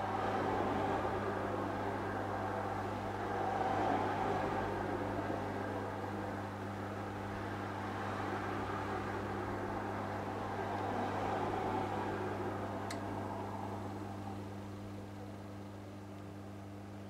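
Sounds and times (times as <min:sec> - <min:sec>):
aquarium equipment humming: 0:00.0 - 0:17.0.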